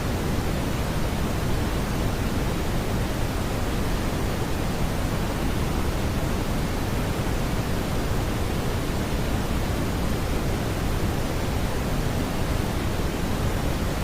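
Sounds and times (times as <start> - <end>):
brown noise hiss: 0.0 - 14.0.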